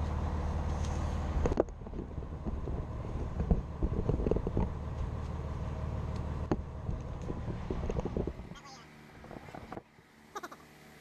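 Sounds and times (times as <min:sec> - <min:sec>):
low mechanical drone: 0:00.0 - 0:11.0.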